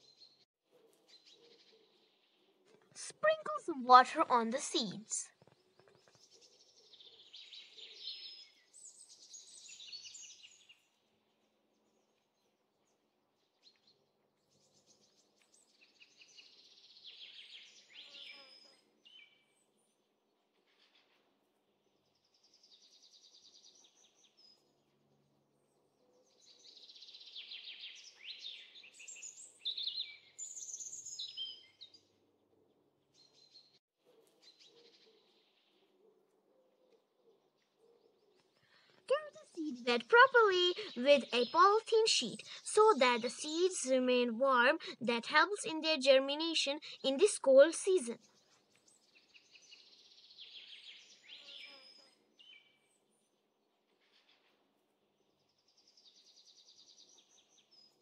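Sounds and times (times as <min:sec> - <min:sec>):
small birds chirping and trilling: 0:00.0 - 0:24.9, 0:25.6 - 0:54.6, 0:55.2 - 0:58.0.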